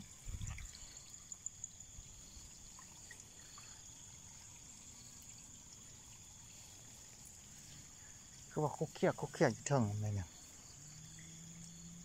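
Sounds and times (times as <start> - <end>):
faint trickling water: 0.0 - 12.0
high-pitched insect drone: 0.1 - 12.0.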